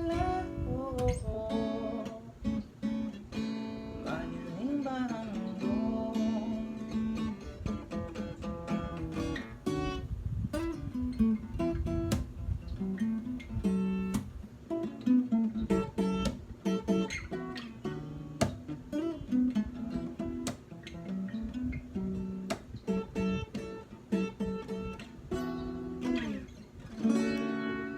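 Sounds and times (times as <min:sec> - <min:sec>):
acoustic guitar strummed and plucked: 0:00.0 - 0:27.9.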